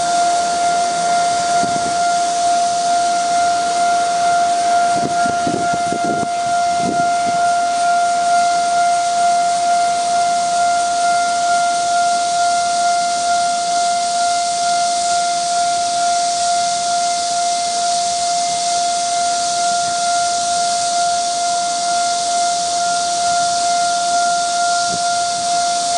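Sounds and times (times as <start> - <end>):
constant hiss: 0.0 - 25.9
level crossing alarm tone: 0.0 - 25.9.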